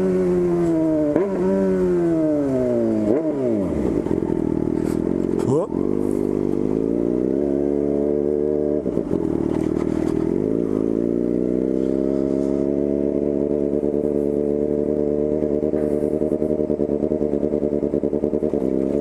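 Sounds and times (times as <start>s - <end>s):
motorcycle engine running loud: 0.0s - 19.0s.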